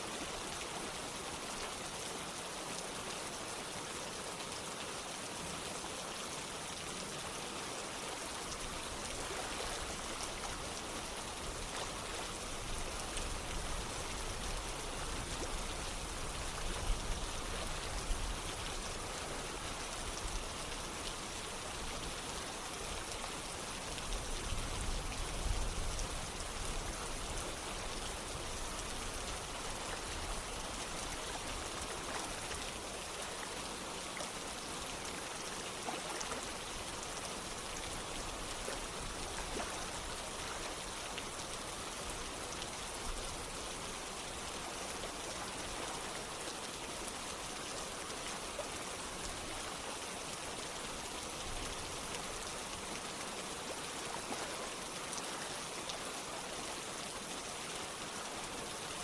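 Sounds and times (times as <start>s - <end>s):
flowing water: 0.0s - 59.0s
steady rain: 0.0s - 59.0s.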